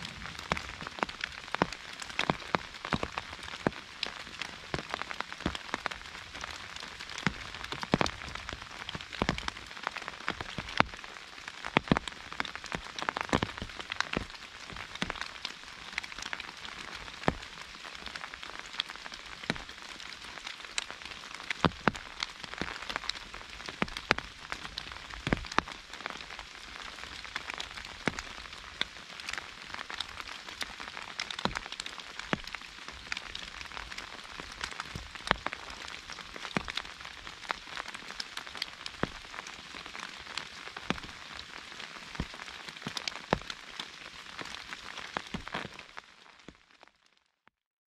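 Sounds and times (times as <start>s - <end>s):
rain hissing: 0.0s - 46.0s
raindrops hitting an umbrella: 0.0s - 47.5s.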